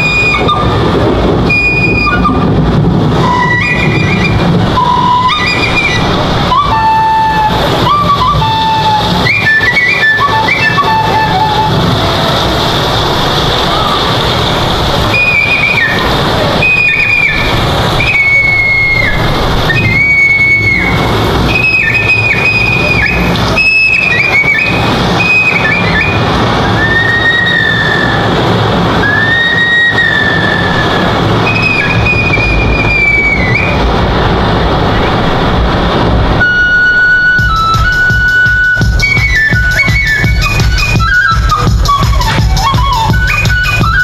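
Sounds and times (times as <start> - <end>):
bamboo flute melody: 0.0 - 44.0.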